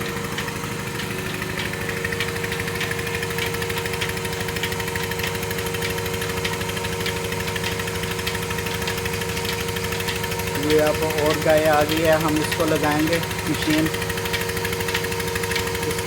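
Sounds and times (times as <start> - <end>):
light regular clicks: 0.0 - 16.0
milking machine motor hum: 0.0 - 16.0.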